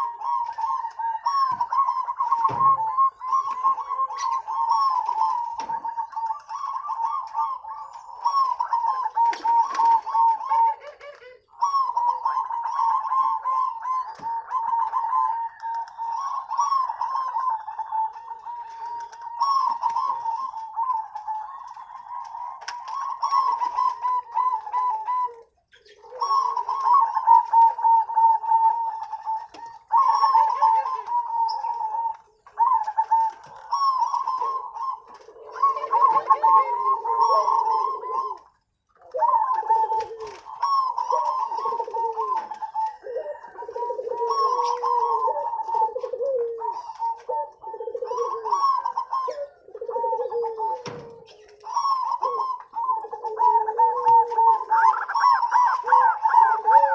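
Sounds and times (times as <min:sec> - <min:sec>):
doves cooing: 0:00.0 - 0:56.9.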